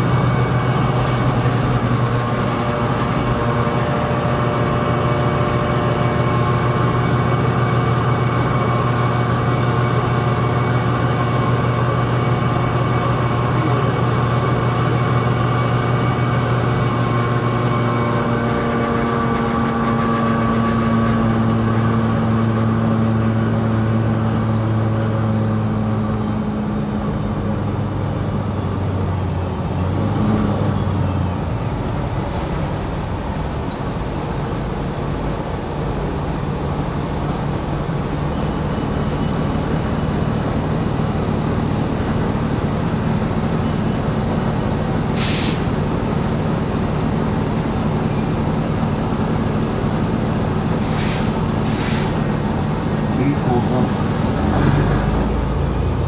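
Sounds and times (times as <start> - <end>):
diesel bus engine hum: 0.0 - 56.0.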